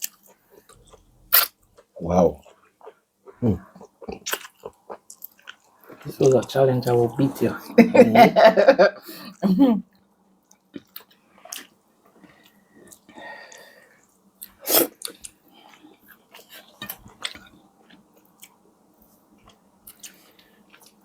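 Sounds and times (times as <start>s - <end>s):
people chewing and biting: 0.0s - 7.6s, 10.5s - 21.0s.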